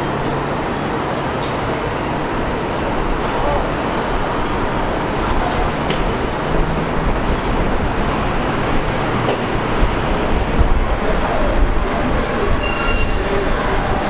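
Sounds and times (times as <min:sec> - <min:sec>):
subway train on steel track: 0:00.0 - 0:14.0.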